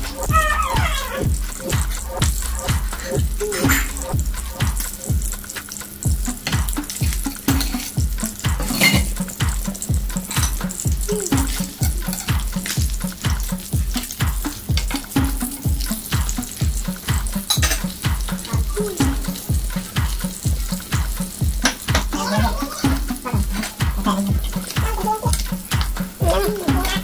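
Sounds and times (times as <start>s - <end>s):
fish sizzling in oil: 0.0s - 27.0s
music with bass beat: 0.0s - 27.0s.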